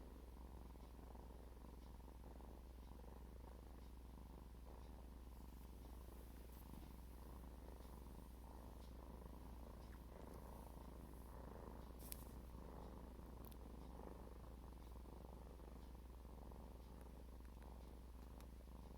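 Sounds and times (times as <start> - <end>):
cat purring: 0.0 - 18.9.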